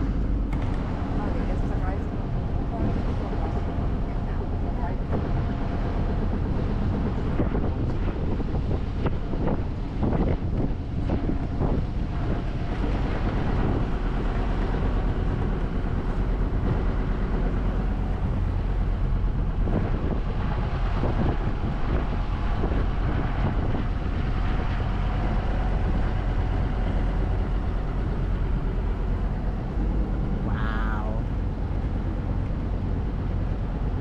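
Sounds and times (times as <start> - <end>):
motorboat engine running: 0.0 - 34.0
wind buffeting microphone: 0.0 - 34.0.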